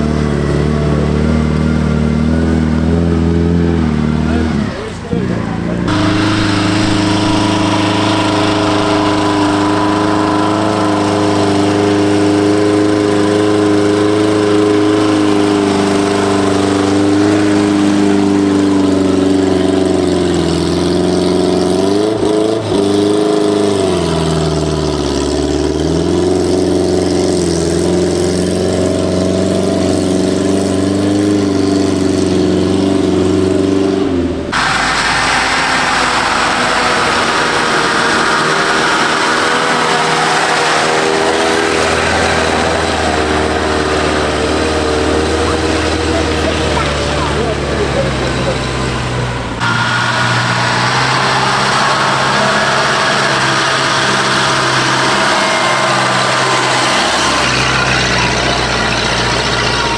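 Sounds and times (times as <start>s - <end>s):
rough engine: 0.0s - 59.9s
small car engine running hard: 0.0s - 59.9s.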